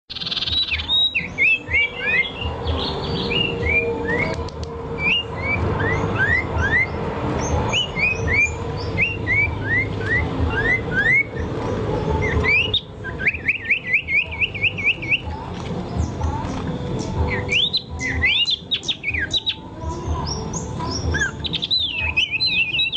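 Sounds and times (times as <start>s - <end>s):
songbird singing whistled notes: 0.1s - 22.9s.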